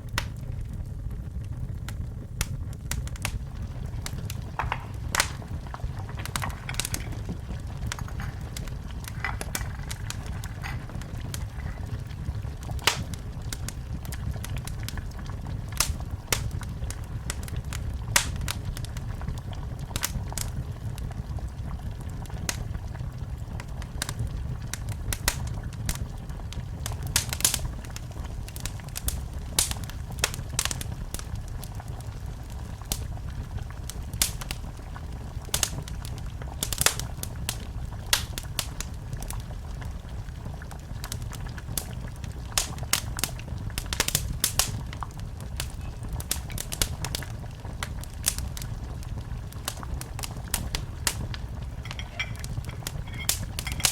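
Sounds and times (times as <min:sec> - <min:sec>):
fire crackling and popping: 0:00.0 - 0:53.9
low rumble of flames: 0:00.0 - 0:53.9.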